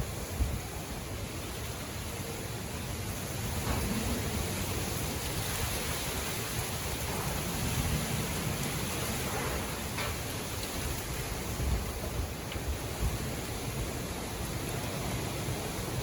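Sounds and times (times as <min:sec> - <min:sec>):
wind buffeting microphone: 0:00.0 - 0:16.0
wind rushing through trees: 0:00.0 - 0:16.0.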